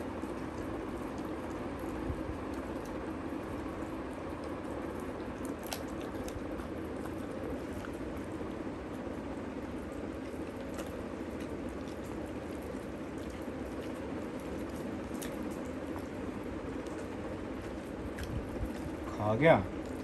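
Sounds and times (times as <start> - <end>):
dog chewing and licking: 0.0 - 20.0.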